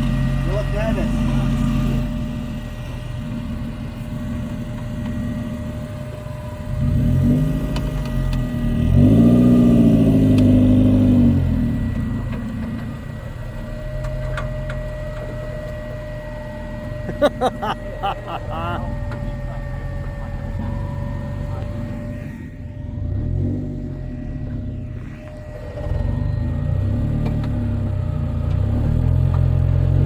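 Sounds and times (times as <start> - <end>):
engine revving: 0.0 - 30.0
four-wheel-drive engine idling: 0.0 - 30.0.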